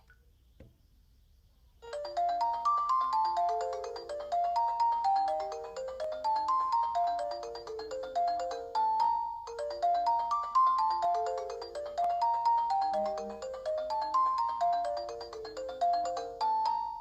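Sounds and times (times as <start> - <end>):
mobile phone ringtone melody: 1.8 - 17.0.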